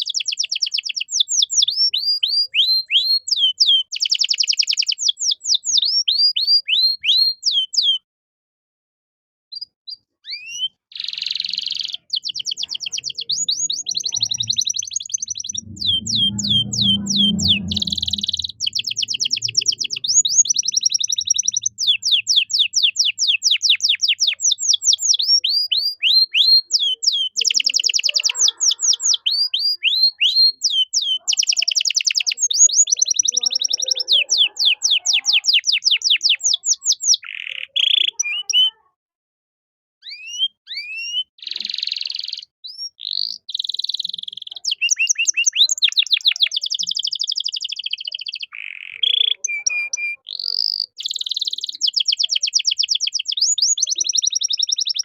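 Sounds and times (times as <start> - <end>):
canary singing trills: 0.0 - 8.0, 9.5 - 39.0, 40.0 - 55.0.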